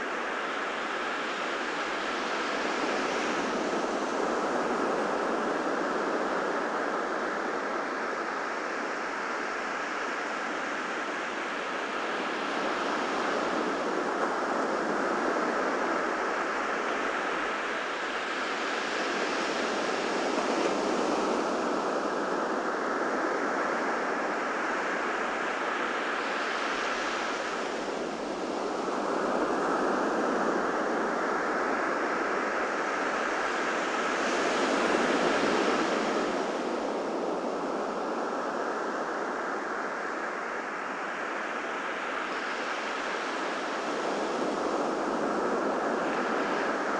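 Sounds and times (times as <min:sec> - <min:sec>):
ocean surf washing: 0:00.0 - 0:46.9.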